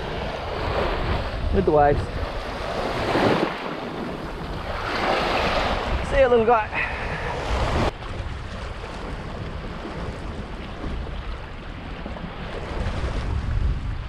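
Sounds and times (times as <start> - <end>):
small waves washing on sand: 0.0 - 14.0
wind buffeting microphone: 0.0 - 14.0.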